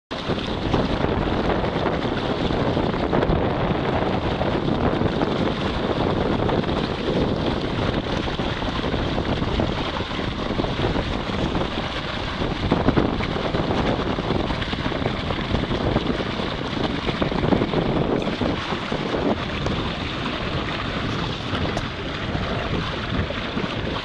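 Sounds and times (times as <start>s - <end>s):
water rushing around a hull: 0.1s - 24.0s
wind buffeting microphone: 0.1s - 24.0s.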